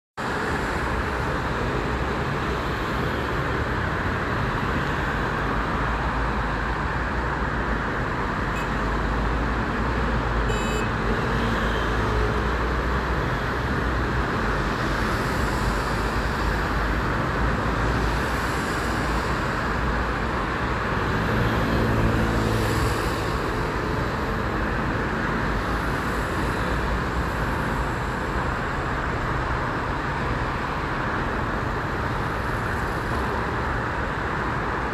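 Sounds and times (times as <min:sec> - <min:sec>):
road traffic noise: 0:00.2 - 0:34.9.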